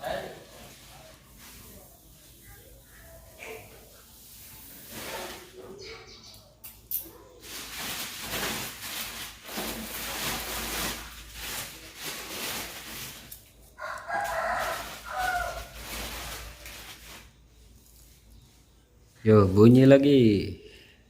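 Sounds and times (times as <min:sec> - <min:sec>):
rough rustling noise: 0:00.1 - 0:06.2, 0:07.3 - 0:20.0.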